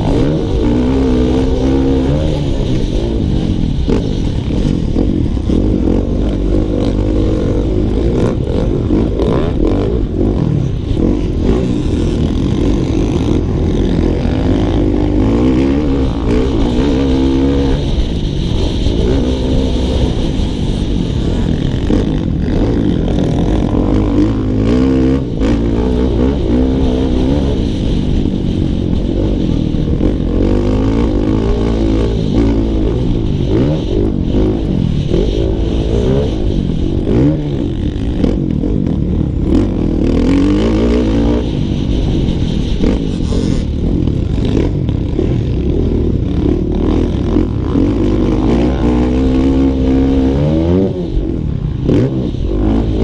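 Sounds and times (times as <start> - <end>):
motocross bike engine revving: 0.0 - 53.0.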